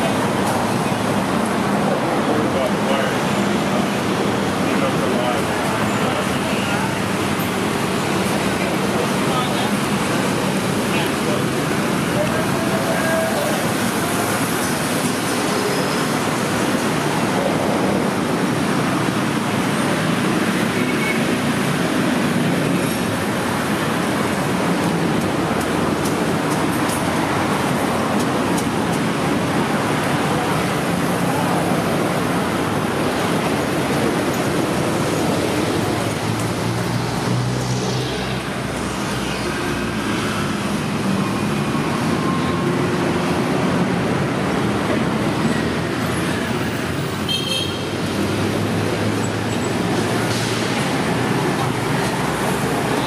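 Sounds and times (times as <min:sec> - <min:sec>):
heavy vehicle engine hum: 0:00.0 - 0:53.0
passing cars and motorbikes: 0:00.0 - 0:53.0.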